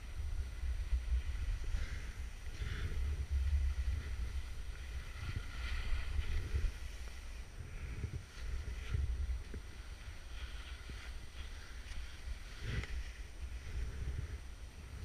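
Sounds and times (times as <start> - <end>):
wind buffeting microphone: 0.0 - 15.0
skis hissing through snow: 0.4 - 15.0.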